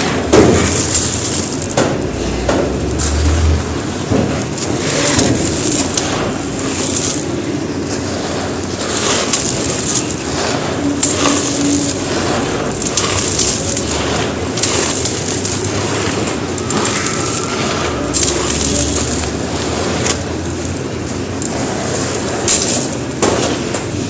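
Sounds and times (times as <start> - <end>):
concrete crumbling and crunching: 0.0 - 23.7.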